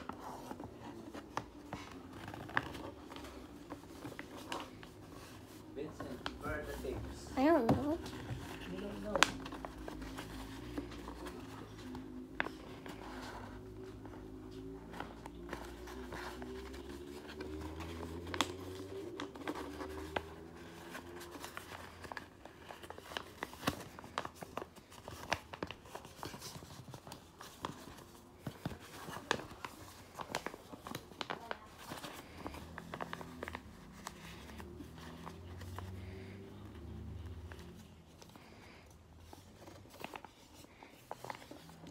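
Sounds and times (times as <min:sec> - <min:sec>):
paper folding and crinkling: 0:00.0 - 0:41.9.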